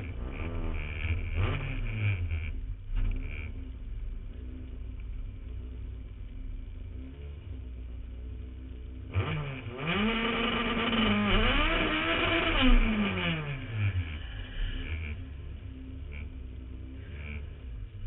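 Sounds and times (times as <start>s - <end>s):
racing car engine revving: 0.0s - 18.0s.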